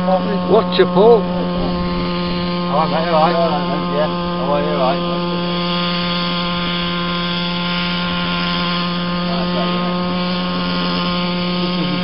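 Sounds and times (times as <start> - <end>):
model helicopter hovering: 0.0 - 12.0.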